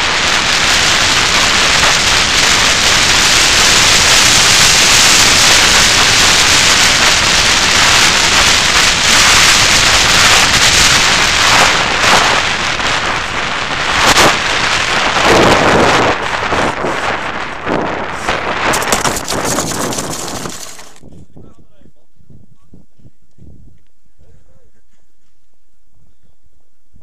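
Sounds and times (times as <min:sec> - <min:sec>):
rushing airflow on microphone: 0:00.0 - 0:25.7.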